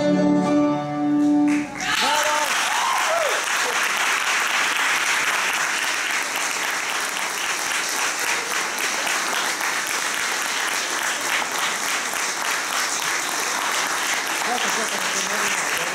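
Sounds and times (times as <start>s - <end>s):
audience applauding: 1.5s - 15.9s.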